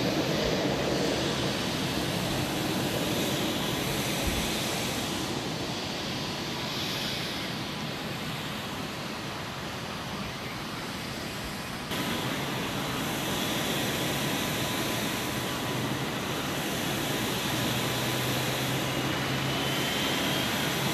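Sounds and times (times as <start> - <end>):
jet engines whining: 0.0 - 20.9.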